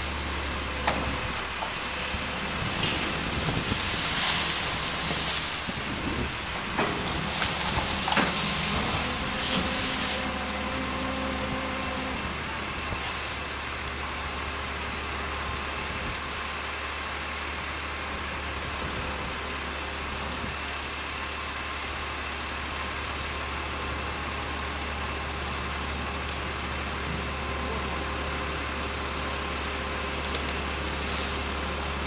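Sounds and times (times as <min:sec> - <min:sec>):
crane engine idling: 0:00.0 - 0:32.0.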